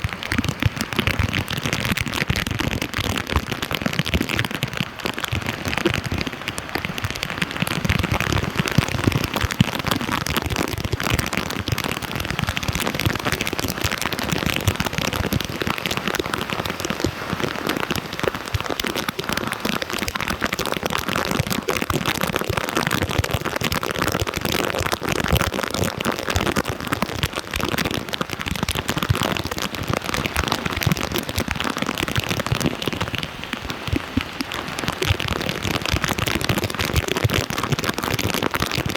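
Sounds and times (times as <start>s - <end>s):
flood water splashing: 0.0s - 38.9s.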